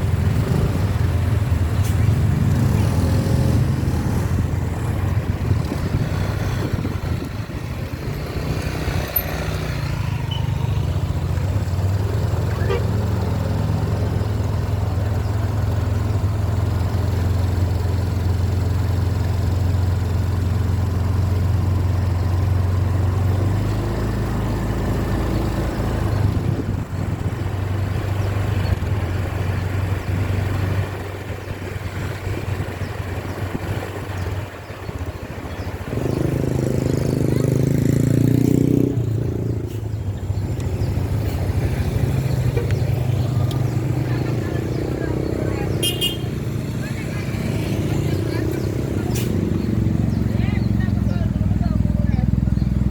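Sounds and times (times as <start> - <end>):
diesel bus engine humming: 0.0 - 52.9.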